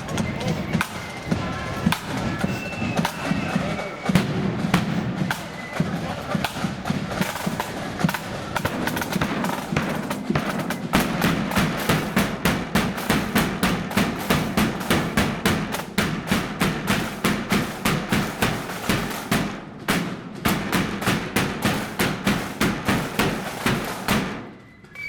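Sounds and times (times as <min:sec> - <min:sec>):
snare and bass drums: 0:00.0 - 0:24.6.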